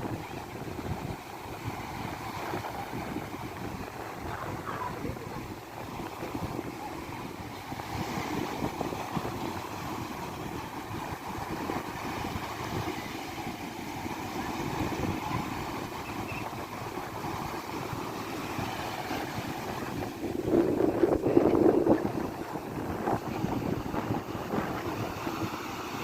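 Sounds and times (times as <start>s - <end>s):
sea waves breaking on shore: 0.0s - 26.0s
wind buffeting microphone: 0.0s - 26.0s.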